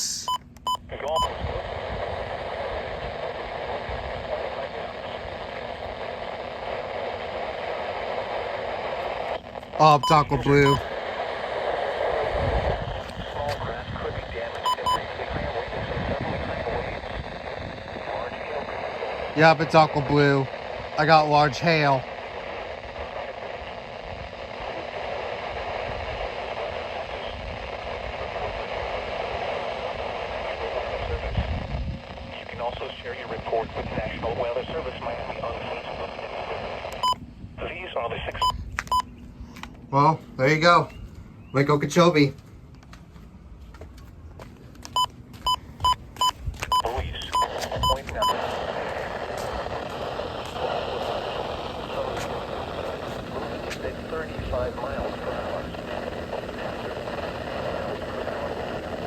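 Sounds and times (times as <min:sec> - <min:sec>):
radio static hiss: 0:00.0 - 0:41.0, 0:44.9 - 0:59.0.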